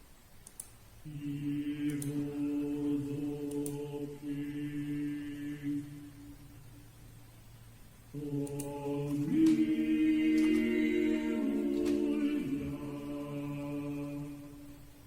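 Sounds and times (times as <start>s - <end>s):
chant-like vocal music on radio: 1.0s - 6.8s, 8.1s - 15.0s.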